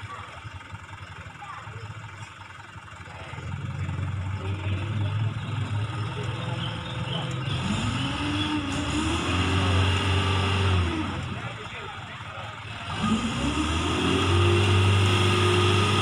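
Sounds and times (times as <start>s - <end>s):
truck engine revving under load: 1.7s - 16.0s.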